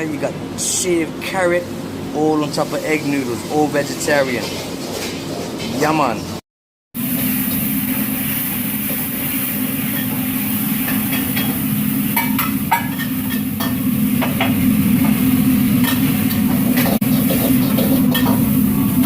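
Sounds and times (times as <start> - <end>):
wok burner roaring: 0.0 - 6.4, 7.0 - 19.0.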